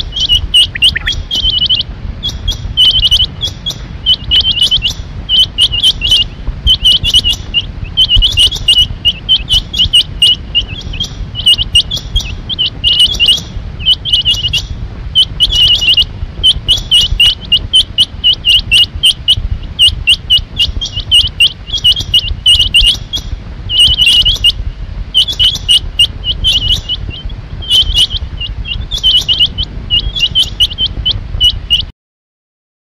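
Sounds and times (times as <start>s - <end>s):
low background rumble: 0.0s - 31.9s
quail calling: 0.0s - 31.9s.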